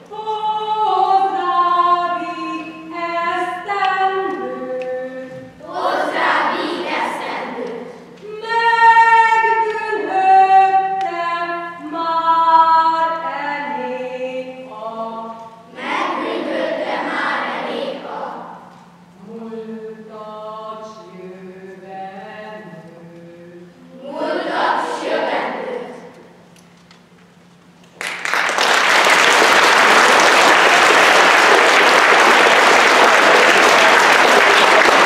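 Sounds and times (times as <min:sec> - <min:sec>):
children's choir singing: 0:00.0 - 0:26.3, 0:29.4 - 0:35.0.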